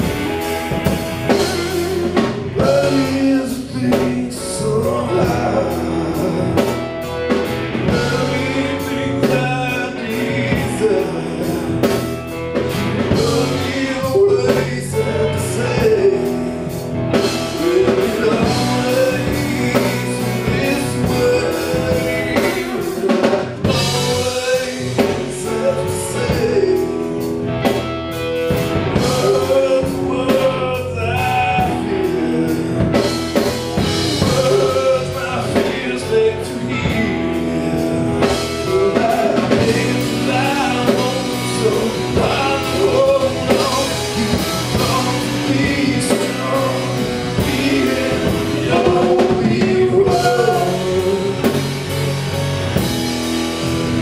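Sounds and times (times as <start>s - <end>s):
man singing: 0.0s - 27.8s, 28.4s - 53.0s
bass guitar: 0.0s - 54.0s
drum kit: 0.0s - 54.0s
electric guitars: 0.0s - 54.0s.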